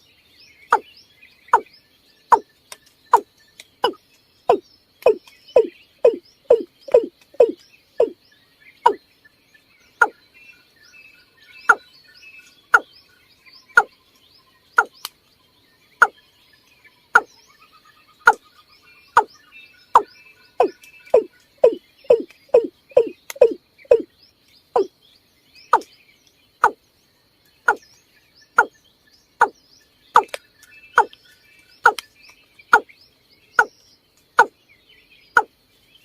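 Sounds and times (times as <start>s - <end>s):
faint chirps: 0.0s - 36.0s.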